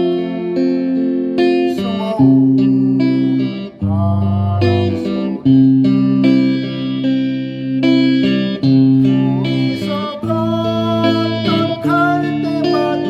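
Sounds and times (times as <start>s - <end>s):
guitar melody: 0.0s - 13.0s.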